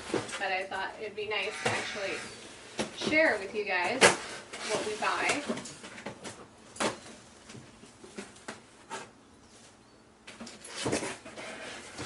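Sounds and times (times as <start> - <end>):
rustling and handling: 0.0 - 12.0.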